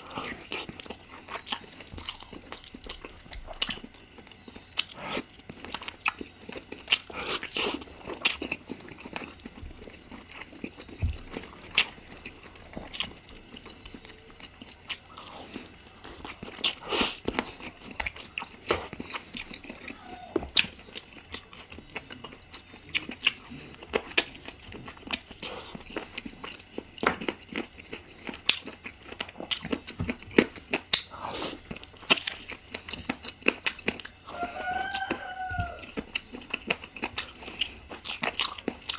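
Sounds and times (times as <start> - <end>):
biting and chewing food: 0.0 - 38.9.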